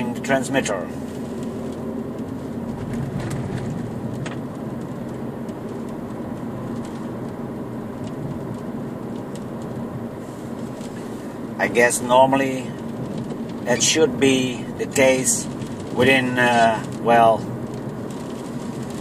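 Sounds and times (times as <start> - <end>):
car interior engine and road hum: 0.0 - 19.0.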